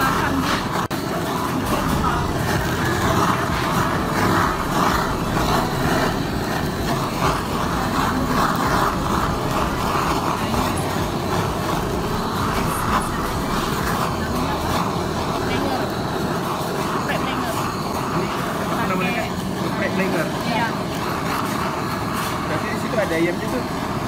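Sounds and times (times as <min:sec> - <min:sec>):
butane torch flame rushing: 0:00.0 - 0:24.0.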